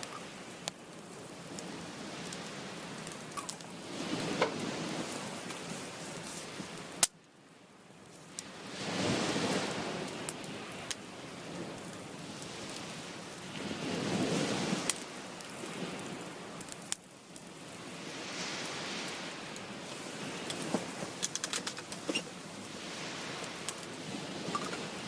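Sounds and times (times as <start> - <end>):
sea waves rushing: 0.0 - 7.1, 8.4 - 25.0
wood fire crackling: 0.0 - 25.0.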